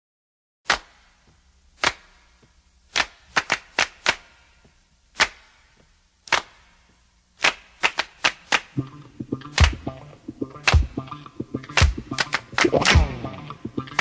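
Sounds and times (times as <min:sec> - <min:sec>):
sharp claps in syncopated rhythm: 0:00.6 - 0:14.0.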